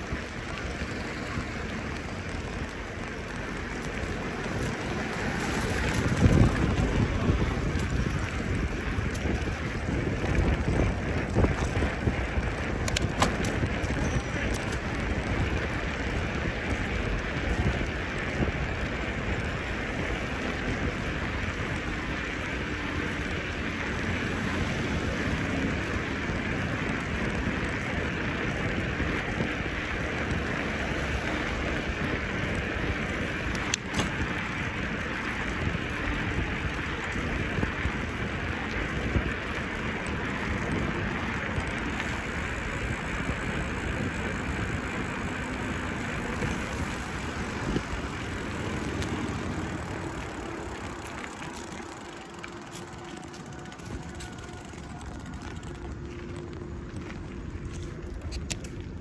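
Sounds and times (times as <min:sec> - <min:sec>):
bicycle rolling rumble and hiss: 0:00.0 - 0:59.0.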